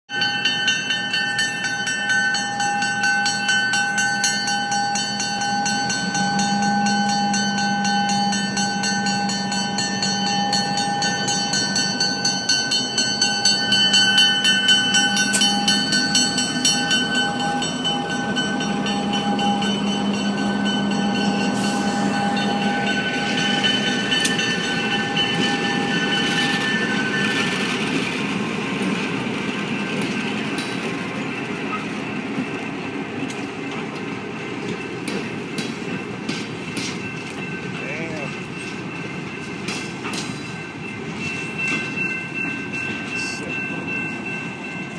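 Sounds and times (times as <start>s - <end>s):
freight train rumbling: 0.1s - 44.9s.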